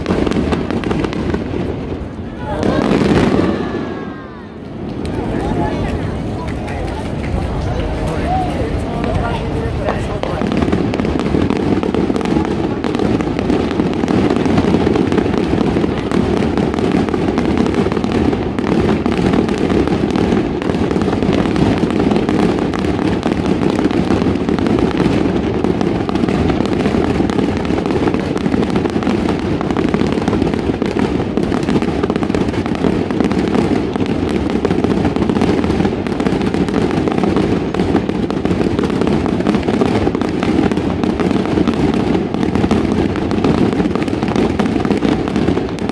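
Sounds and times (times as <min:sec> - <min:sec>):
fireworks booming and crackling: 0:00.0 - 0:45.9.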